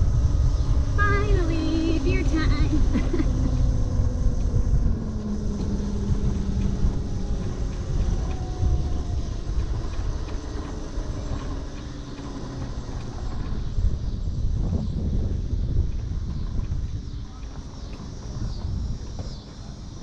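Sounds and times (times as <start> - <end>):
electric motor whine: 0.0 - 19.8
wind buffeting microphone: 0.0 - 20.0.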